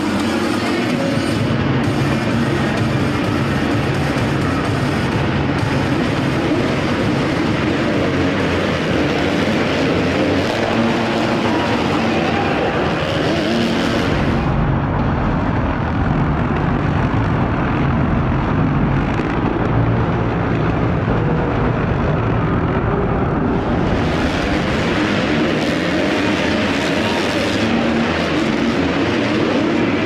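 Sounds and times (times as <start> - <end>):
dirt bike engines racing: 0.0 - 30.0.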